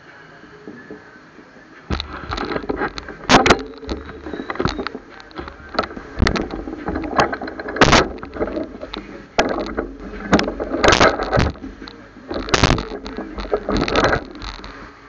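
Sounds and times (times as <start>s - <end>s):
bike rattling over bumps: 1.9s - 15.0s.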